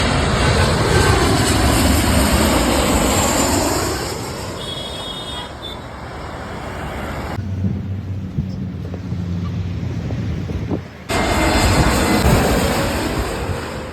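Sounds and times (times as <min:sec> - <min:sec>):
jet airliner roaring overhead: 0:00.0 - 0:13.9.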